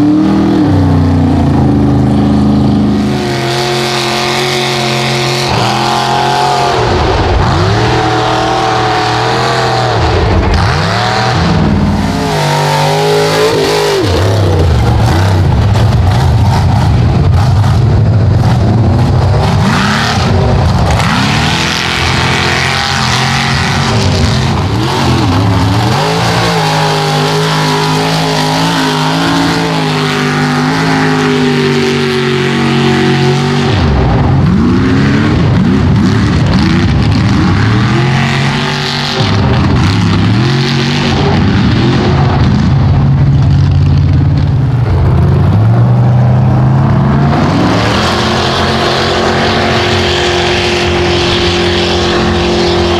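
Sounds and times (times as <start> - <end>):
truck engines revving: 0.0 - 52.9.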